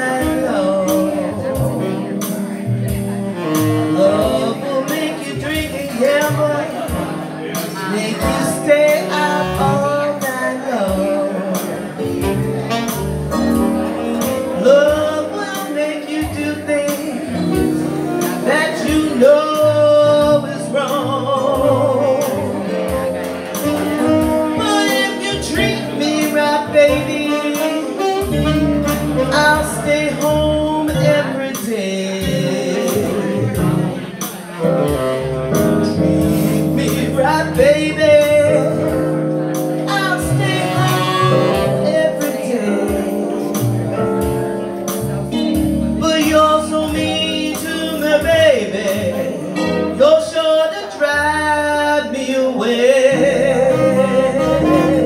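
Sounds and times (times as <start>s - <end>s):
keyboard: 0.0s - 55.0s
saxophone: 0.0s - 55.0s.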